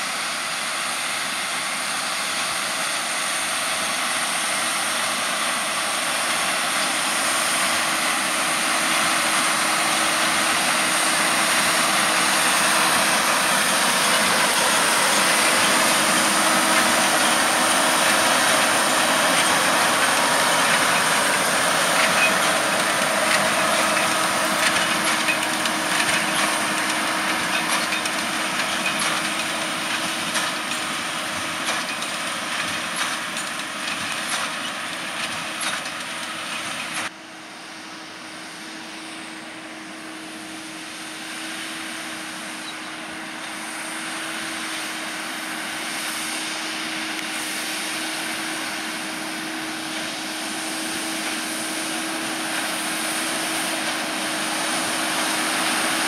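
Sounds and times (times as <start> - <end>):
tractor and baler humming: 0.0 - 56.0.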